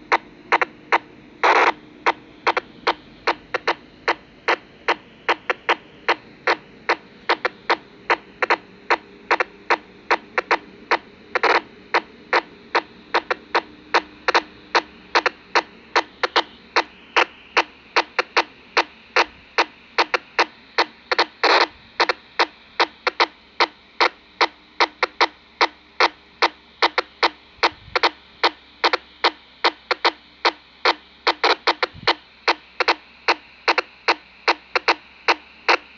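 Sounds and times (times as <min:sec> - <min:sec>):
faint radio hiss: 0:00.0 - 0:35.9
short sharp radio clicks: 0:00.0 - 0:35.9.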